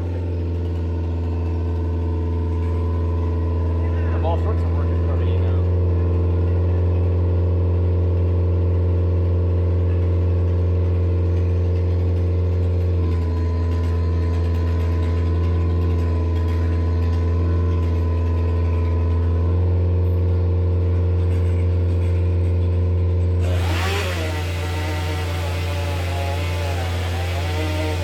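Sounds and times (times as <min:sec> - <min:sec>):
heavy machinery engine running: 0:00.0 - 0:28.0.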